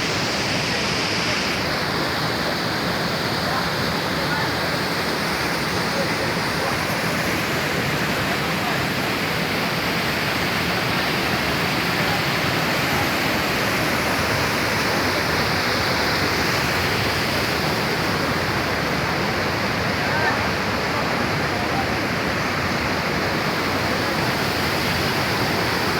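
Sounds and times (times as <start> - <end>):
waterfall pouring: 0.0 - 25.9.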